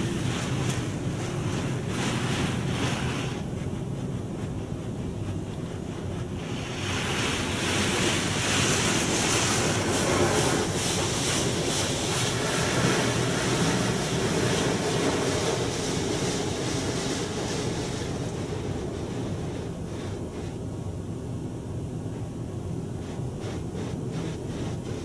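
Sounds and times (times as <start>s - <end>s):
car wash spray drumming on car: 0.0s - 25.0s.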